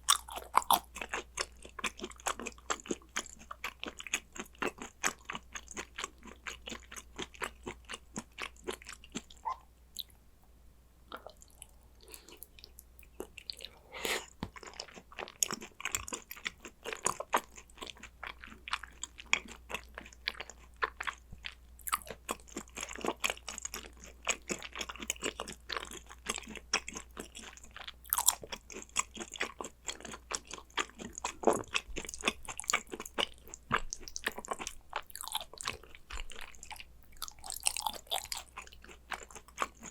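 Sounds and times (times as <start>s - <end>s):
close-miked chewing and biting: 0.0s - 10.1s, 11.1s - 39.9s.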